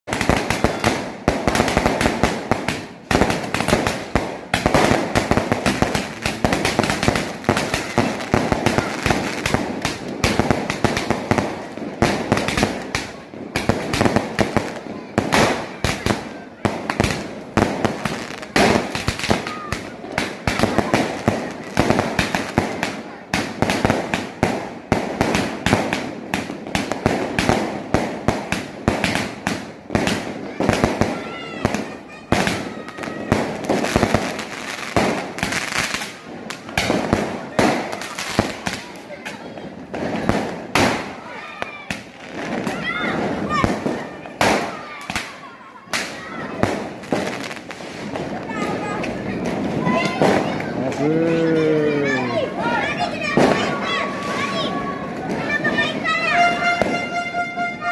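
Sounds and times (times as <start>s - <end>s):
firecrackers and fireworks banging: 0.0s - 57.9s.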